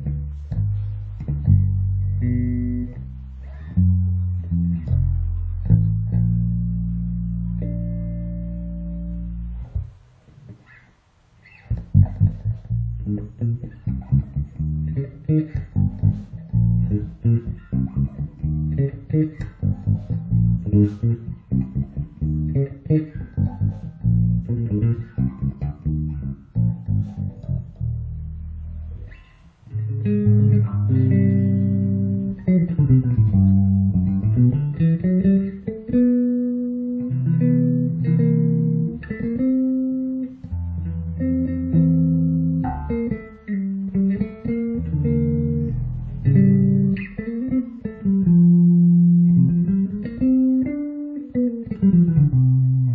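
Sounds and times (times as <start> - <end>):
electric bass playing: 0.0 - 10.8, 11.4 - 52.9.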